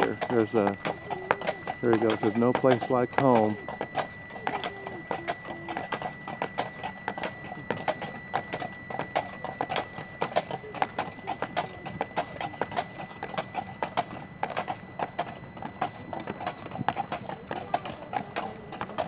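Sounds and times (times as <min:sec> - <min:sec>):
horse hooves on pavement: 0:00.0 - 0:19.0.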